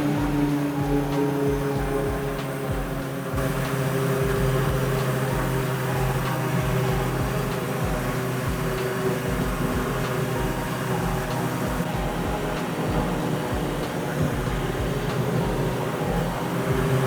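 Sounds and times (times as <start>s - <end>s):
low rhythmic pulsing beat: 0.0s - 17.0s
turboprop engine humming: 0.0s - 17.0s.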